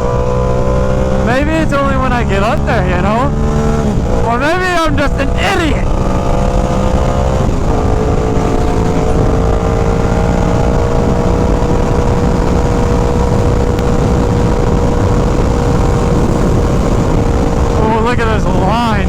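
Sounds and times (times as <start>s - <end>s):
motorcycle engine cruising: 0.0s - 19.0s
wind rumble on microphone: 0.0s - 19.0s.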